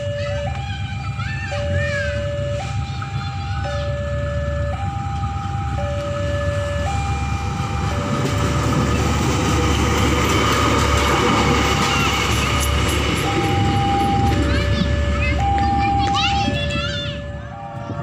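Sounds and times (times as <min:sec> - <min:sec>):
railcar rumbling past: 0:00.0 - 0:18.0
two-tone crossing alarm: 0:00.0 - 0:18.0.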